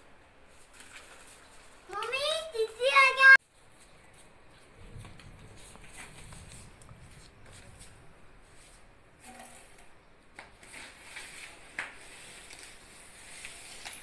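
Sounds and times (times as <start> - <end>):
broom swishing on hard floor: 0.5 - 9.8, 10.6 - 14.0.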